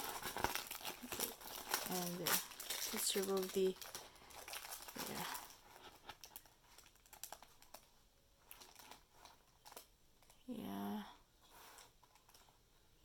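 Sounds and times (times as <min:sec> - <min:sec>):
plastic packaging crinkling: 0:00.0 - 0:10.4, 0:11.6 - 0:12.5.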